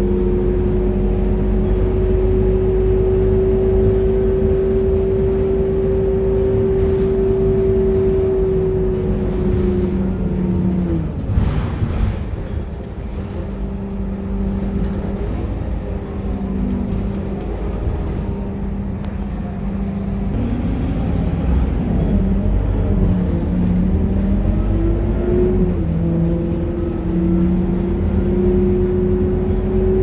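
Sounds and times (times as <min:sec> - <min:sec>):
bus diesel engine running: 0:00.0 - 0:30.0.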